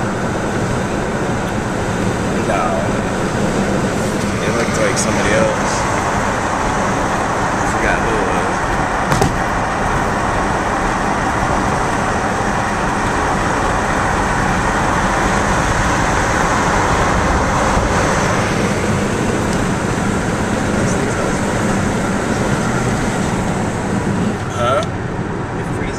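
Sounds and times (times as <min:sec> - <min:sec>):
car road noise on highway: 0:00.0 - 0:25.9.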